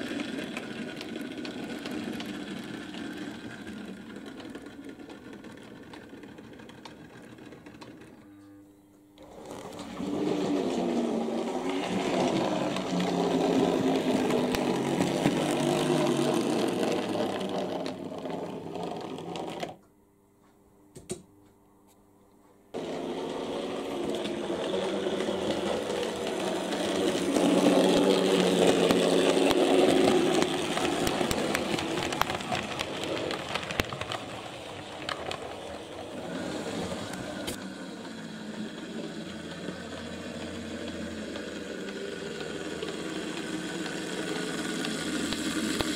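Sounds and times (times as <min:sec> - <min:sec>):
model train motor whirring: 0:00.0 - 0:08.1, 0:09.2 - 0:19.8, 0:22.8 - 0:45.9
wheels clicking on rails: 0:00.0 - 0:08.6, 0:09.2 - 0:19.8, 0:22.7 - 0:45.9.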